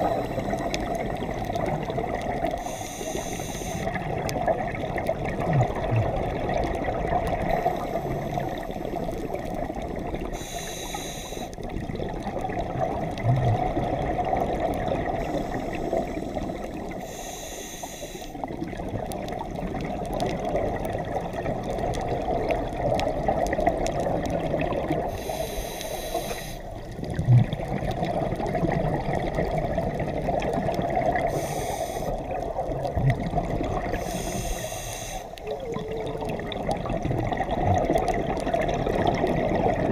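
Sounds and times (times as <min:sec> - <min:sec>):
exhaled bubbles gushing: 0:00.0 - 0:10.6, 0:11.6 - 0:17.0, 0:18.4 - 0:25.4, 0:26.7 - 0:34.5, 0:35.4 - 0:39.9
underwater water rushing: 0:00.0 - 0:39.9.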